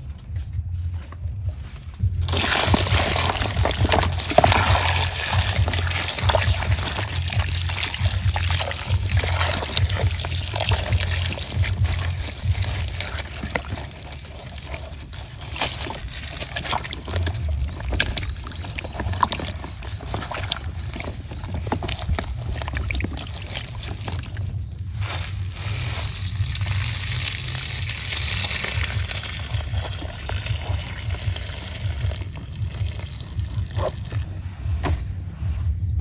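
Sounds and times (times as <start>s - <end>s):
water splashing and trickling: 2.2s - 34.3s.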